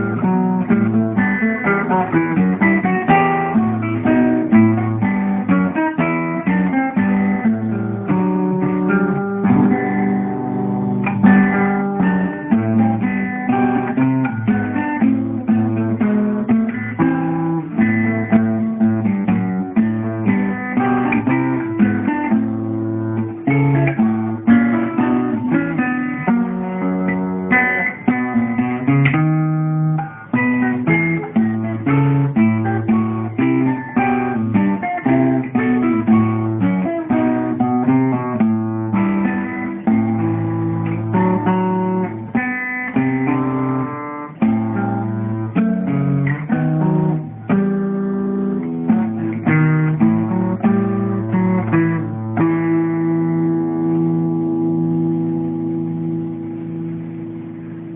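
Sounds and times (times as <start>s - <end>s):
classical acoustic guitar: 0.0s - 57.9s.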